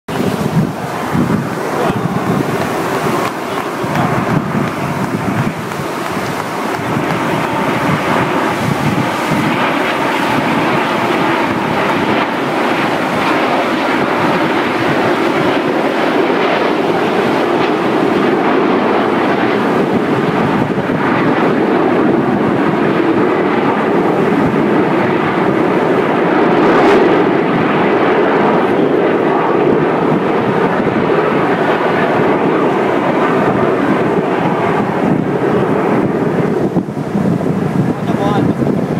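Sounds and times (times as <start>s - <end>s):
jet engines flying past: 0.1s - 38.9s.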